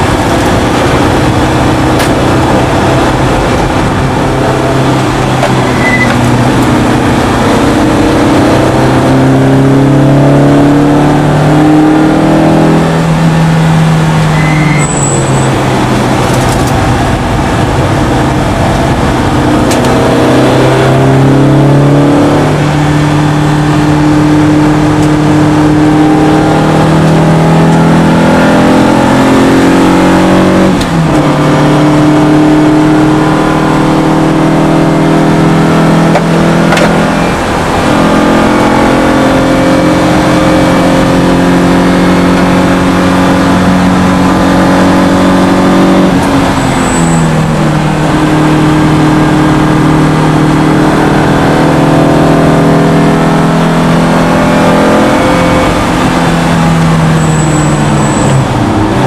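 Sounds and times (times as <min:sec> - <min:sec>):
engine revving hard: 0:00.0 - 0:59.0.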